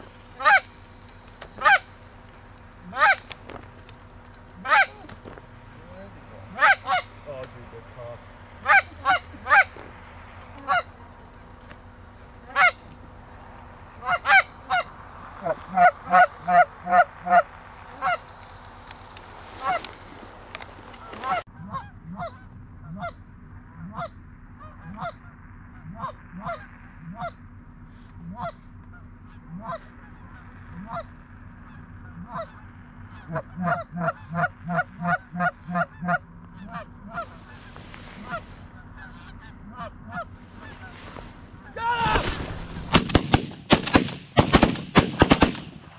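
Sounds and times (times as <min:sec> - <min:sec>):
geese honking: 0:00.0 - 0:43.0.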